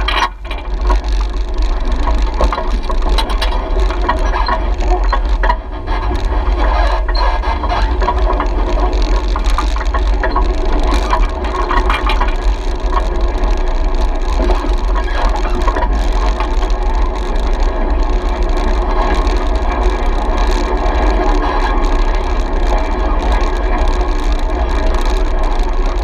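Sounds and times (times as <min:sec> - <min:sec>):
heavy low rumble: 0:00.0 - 0:26.0
off-road vehicle engine running: 0:00.0 - 0:26.0
rattles and clicks: 0:00.0 - 0:26.0.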